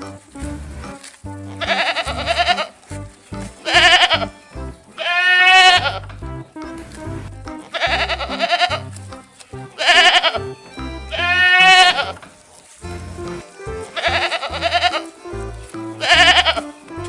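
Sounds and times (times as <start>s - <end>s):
music with steady bass line: 0.0s - 4.9s, 5.8s - 9.8s, 10.4s - 11.7s, 12.8s - 17.0s
goat bleating: 0.0s - 6.2s, 6.8s - 9.0s, 9.6s - 12.3s, 13.0s - 17.0s.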